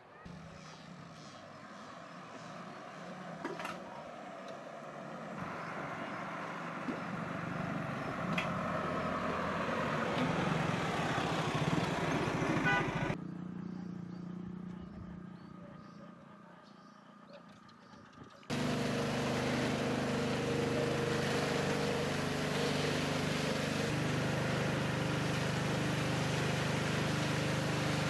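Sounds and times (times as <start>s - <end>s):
motorcycle engine hum: 0.2s - 28.0s
truck on dirt road: 0.2s - 28.0s.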